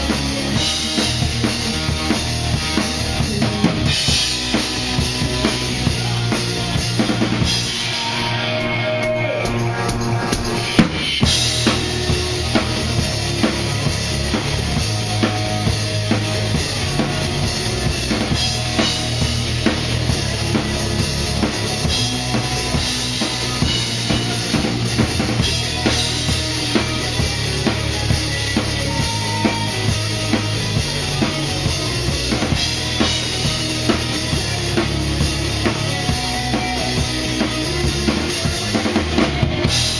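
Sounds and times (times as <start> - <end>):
drum kit beat: 0.0 - 39.9
rock band playing: 0.0 - 39.9.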